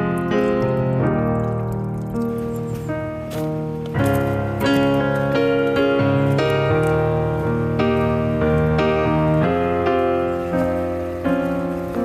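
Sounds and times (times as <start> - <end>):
slow piano music: 0.0 - 12.0
soft steady hiss: 0.0 - 12.0.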